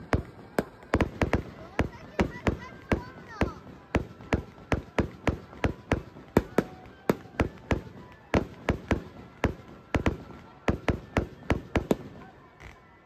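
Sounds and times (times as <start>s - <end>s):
fireworks bangs: 0.0s - 12.8s.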